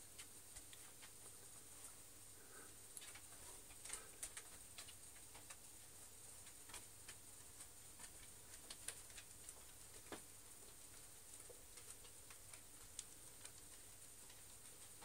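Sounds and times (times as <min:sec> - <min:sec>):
faint irregular clicks: 0:00.0 - 0:15.0
steady hiss: 0:00.0 - 0:15.0.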